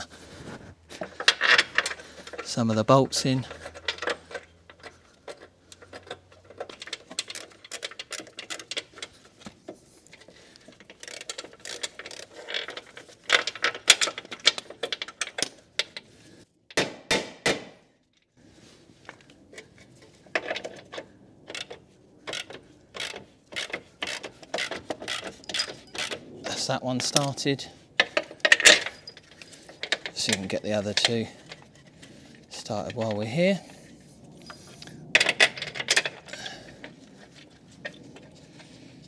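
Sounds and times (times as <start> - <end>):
bolts and metal parts clinking: 0.9 - 16.1, 19.0 - 33.7, 34.5 - 38.7.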